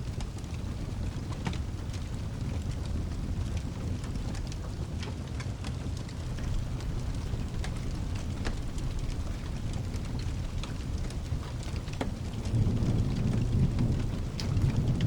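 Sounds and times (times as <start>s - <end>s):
deep continuous rumble: 0.0s - 4.9s, 6.0s - 15.0s
steady rain: 0.0s - 15.0s
wood fire crackling: 0.0s - 15.0s.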